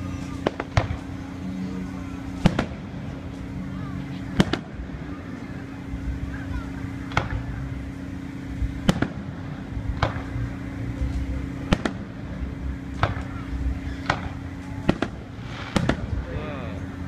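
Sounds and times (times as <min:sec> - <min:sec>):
fireworks bangs: 0:00.0 - 0:17.0
steady low hum: 0:00.0 - 0:17.0.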